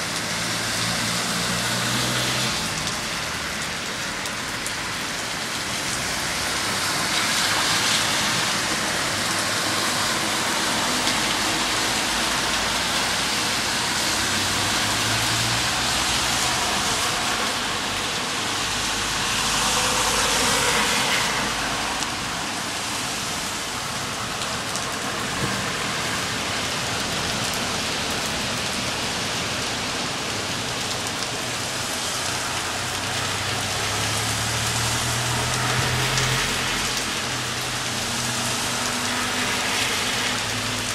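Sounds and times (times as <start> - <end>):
heavy rain on flooded street: 0.0 - 40.9.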